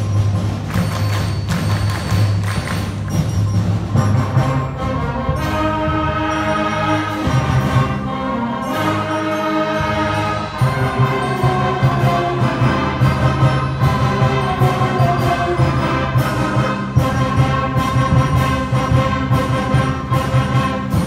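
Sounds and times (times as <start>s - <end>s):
concert band playing chords: 0.0s - 21.0s.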